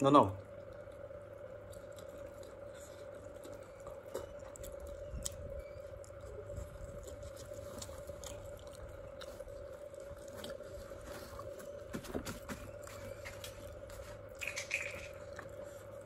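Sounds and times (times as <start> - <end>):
steady hum: 0.0 - 16.0
person chewing food: 0.4 - 16.0.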